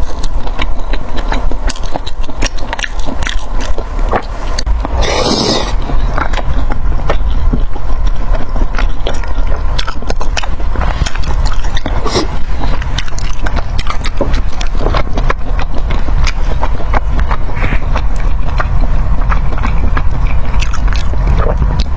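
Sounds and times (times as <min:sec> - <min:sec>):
chewing and crunching food: 0:00.0 - 0:21.9
steady low rumble: 0:00.0 - 0:21.9.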